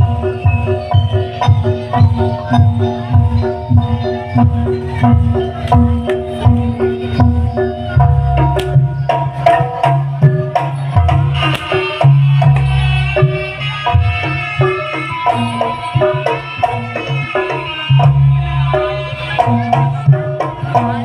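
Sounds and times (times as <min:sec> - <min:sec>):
tuned metal percussion pattern: 0:00.0 - 0:21.0.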